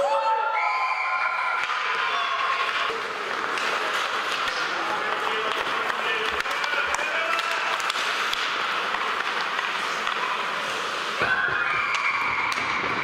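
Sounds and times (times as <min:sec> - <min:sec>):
crowd noise: 0:00.0 - 0:13.0
sticks and skates clicking on ice: 0:01.5 - 0:13.0.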